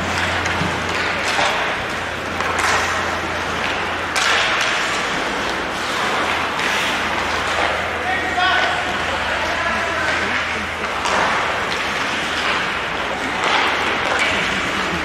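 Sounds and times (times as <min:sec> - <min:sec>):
skate blades scraping on ice: 0:00.0 - 0:15.0
steady low hum: 0:00.0 - 0:15.0.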